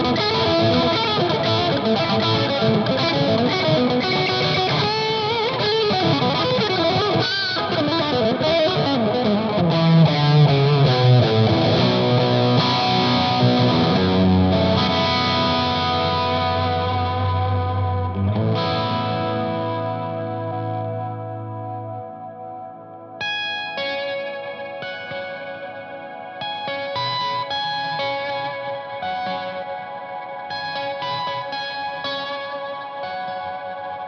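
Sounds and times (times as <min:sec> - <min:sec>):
overdriven electric guitar: 0:00.0 - 0:34.0.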